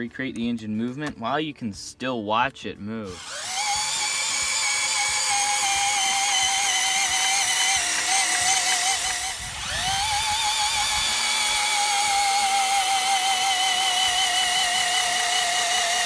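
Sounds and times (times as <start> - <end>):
cordless drill whining: 3.1 - 16.0.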